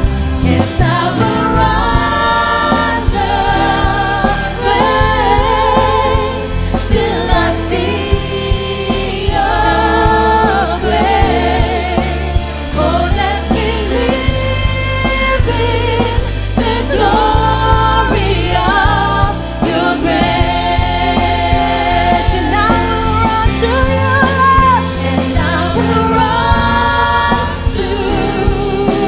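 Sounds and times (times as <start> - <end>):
backing singers: 0.0 - 29.0
bass guitar: 0.0 - 29.0
drums: 0.0 - 29.0
women singing lead: 0.0 - 29.0.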